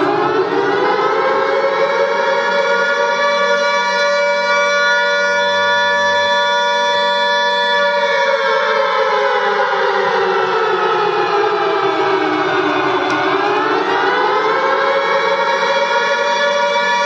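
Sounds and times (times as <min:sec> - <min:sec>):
civil defence siren: 0:00.0 - 0:17.0.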